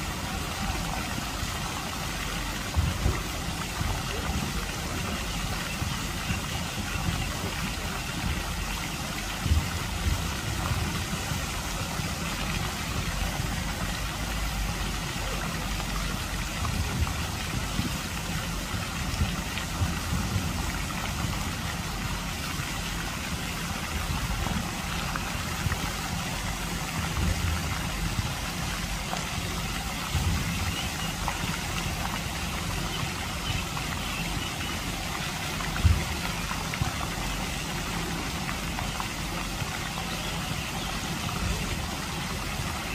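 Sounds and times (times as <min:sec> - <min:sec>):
fountain water splashing: 0:00.0 - 0:42.9.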